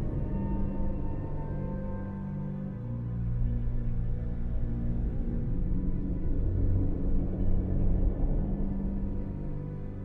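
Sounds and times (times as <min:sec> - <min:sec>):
dark ambient drone music: 0:00.0 - 0:10.0.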